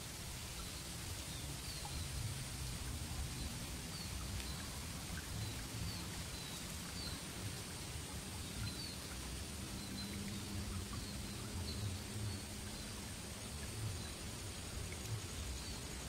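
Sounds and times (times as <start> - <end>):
steady hiss and low rumble: 0.0 - 16.0.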